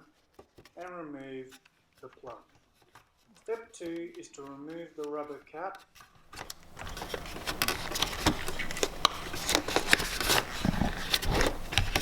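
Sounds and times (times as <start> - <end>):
rubber rubbing and scraping: 0.0 - 12.0.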